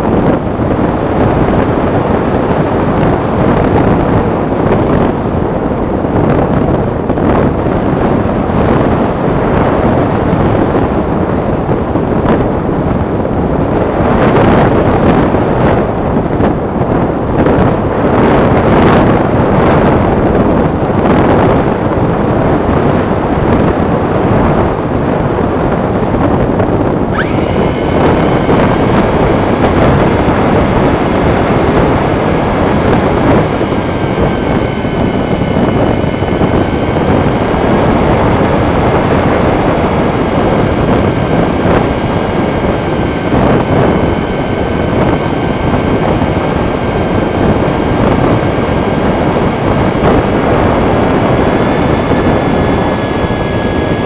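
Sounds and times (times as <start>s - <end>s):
electric motor and propeller whine: 0.0s - 54.0s
wind rushing over microphone: 0.0s - 54.0s.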